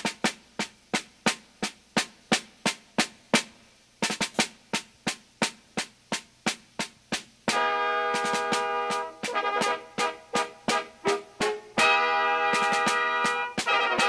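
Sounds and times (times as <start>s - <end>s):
drum beat: 0.0s - 14.0s.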